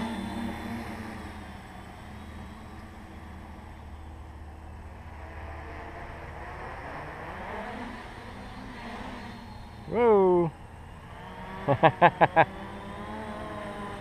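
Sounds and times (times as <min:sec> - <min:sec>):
drone motors whirring: 0:00.0 - 0:14.0.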